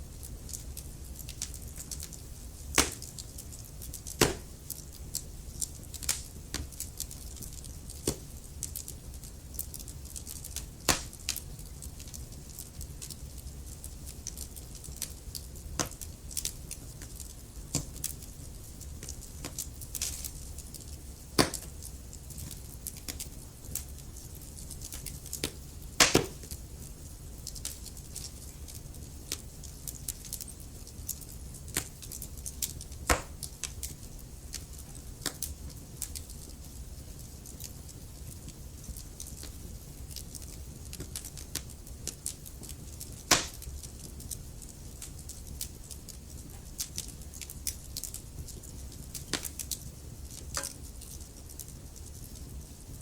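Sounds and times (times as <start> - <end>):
wood fire crackling: 0.0 - 53.0
fire pops: 0.2 - 53.0.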